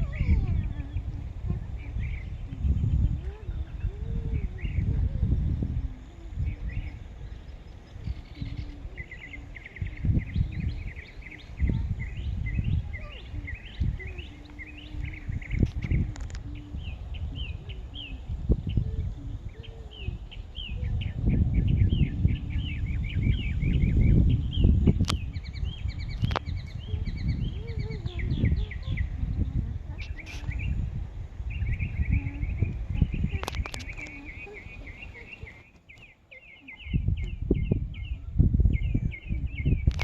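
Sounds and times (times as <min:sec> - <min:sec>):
birds chirping and singing: 0:00.0 - 0:40.0
wind buffeting microphone: 0:00.0 - 0:40.0.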